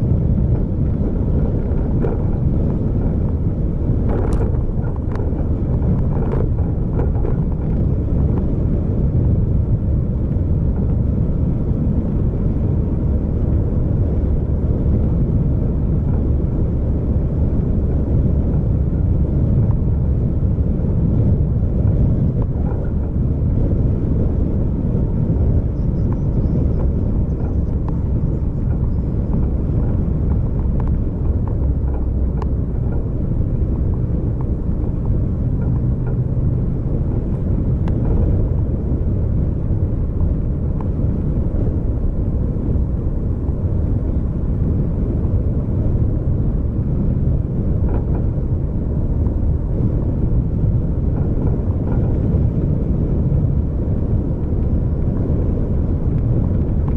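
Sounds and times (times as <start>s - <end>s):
vehicle driving on road: 0.0s - 56.9s.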